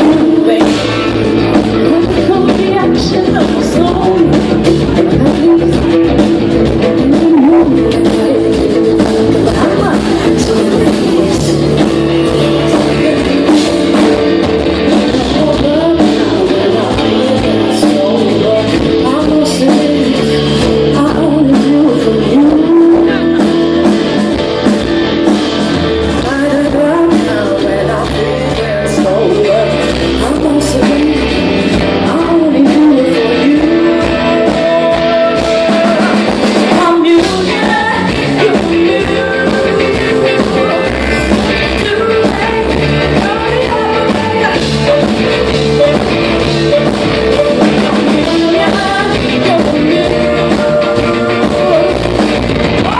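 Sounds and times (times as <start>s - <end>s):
woman singing: 0.0s - 24.4s, 26.2s - 52.9s
band playing live: 0.0s - 52.9s
strummed guitar: 0.0s - 52.9s.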